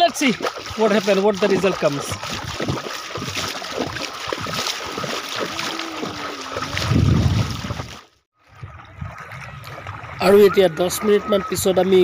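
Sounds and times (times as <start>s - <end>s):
shallow river water: 0.0s - 12.0s
wind buffeting microphone: 1.6s - 12.0s.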